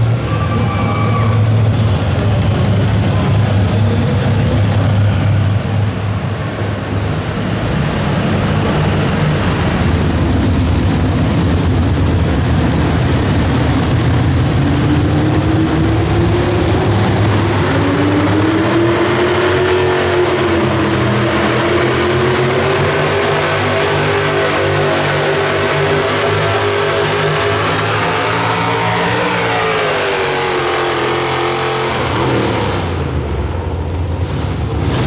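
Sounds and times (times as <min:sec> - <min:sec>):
truck engine running hard: 0:00.0 - 0:35.0.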